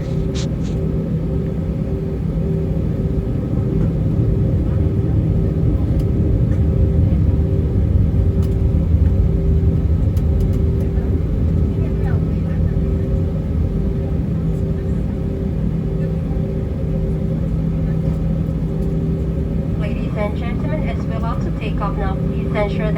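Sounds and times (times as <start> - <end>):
jet engines at taxi power: 0.0 - 22.9.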